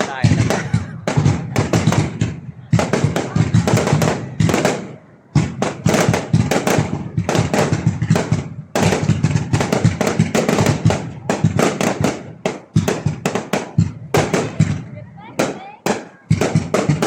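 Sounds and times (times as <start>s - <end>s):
fireworks bangs and cracks: 0.0s - 17.0s.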